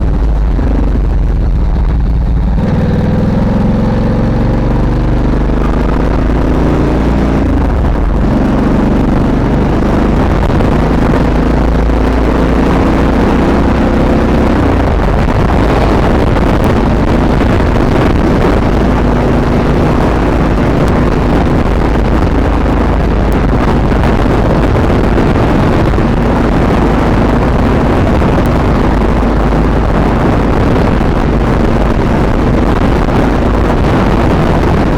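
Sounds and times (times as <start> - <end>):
motorcycle engine accelerating: 0.0 - 34.9
wind rushing over microphone: 0.0 - 34.9.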